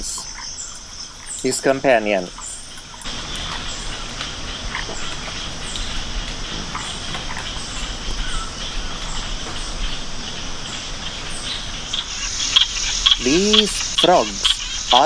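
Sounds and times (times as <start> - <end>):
frogs clicking: 0.0 - 15.0.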